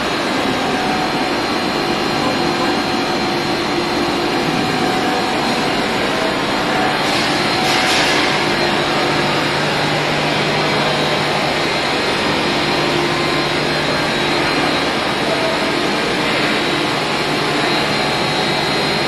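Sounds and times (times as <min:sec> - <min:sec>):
refrigeration machinery hum and hiss: 0:00.0 - 0:19.0.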